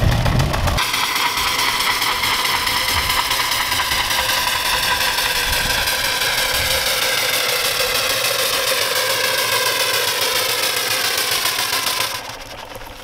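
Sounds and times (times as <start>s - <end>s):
steam engine running: 0.0s - 13.0s.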